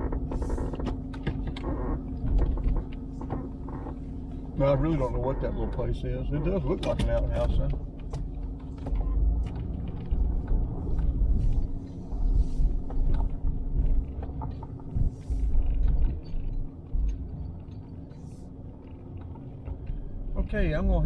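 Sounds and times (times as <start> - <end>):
car engine and road rumble: 0.0 - 21.0
steady low hum: 0.0 - 21.0.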